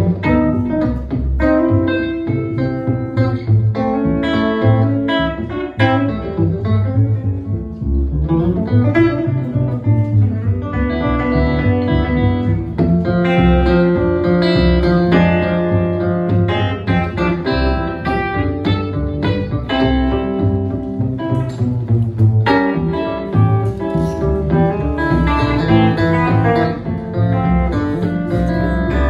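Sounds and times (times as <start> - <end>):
electric guitar playing: 0.0 - 29.0
plucked double bass: 0.0 - 29.0.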